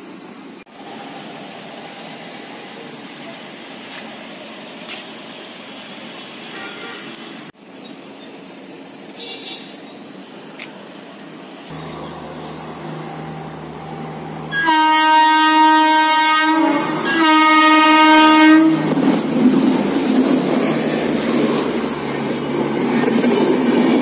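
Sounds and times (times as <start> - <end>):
road vehicles passing: 0.2 - 24.0.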